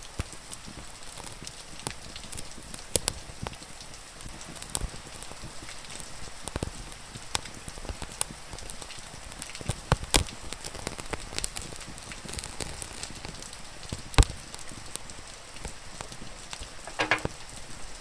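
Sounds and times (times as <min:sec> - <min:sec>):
rain falling: 0:00.0 - 0:18.0
wood fire crackling and popping: 0:00.0 - 0:18.0.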